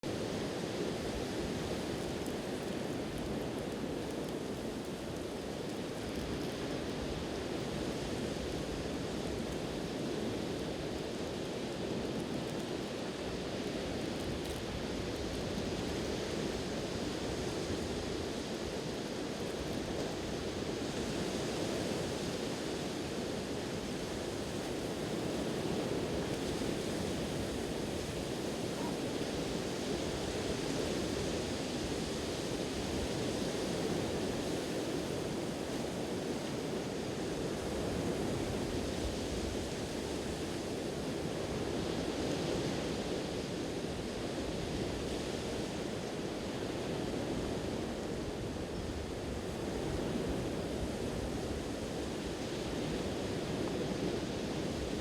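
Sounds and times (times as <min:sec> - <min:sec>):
wind: 0:00.0 - 0:55.0.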